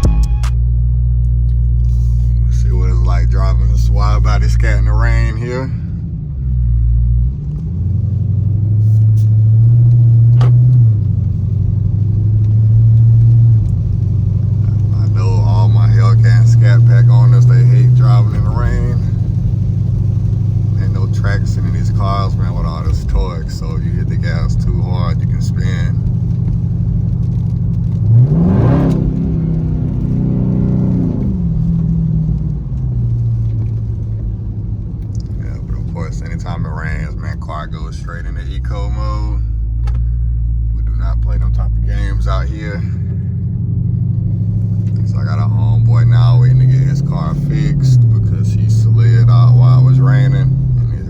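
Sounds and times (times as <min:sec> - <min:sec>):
car engine droning while driving: 0:00.0 - 0:51.0.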